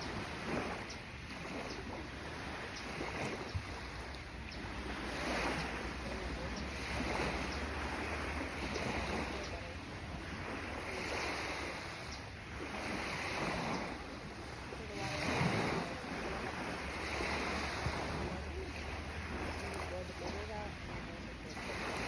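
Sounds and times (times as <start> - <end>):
sea water splashing: 0.0 - 22.0.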